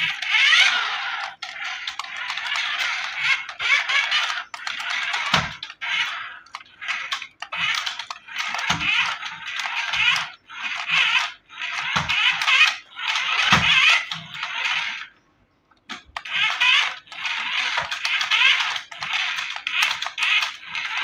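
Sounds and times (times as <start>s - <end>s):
clicks: 0.0s - 21.0s.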